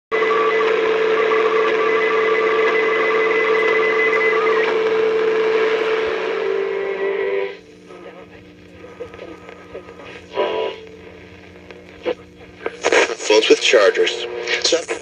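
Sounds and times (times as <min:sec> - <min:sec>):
radio static hiss: 0:00.2 - 0:15.0.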